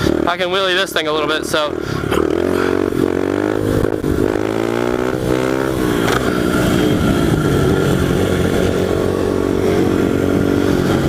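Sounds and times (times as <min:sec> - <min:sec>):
pit bike engine running: 0:00.0 - 0:11.0.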